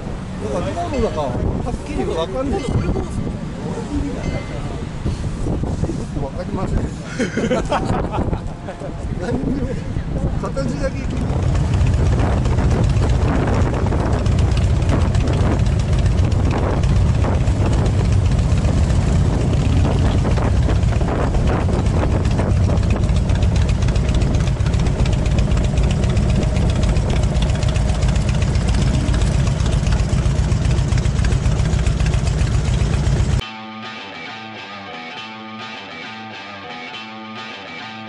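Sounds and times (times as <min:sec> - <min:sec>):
motorcycle engines idling: 0:00.0 - 0:33.4.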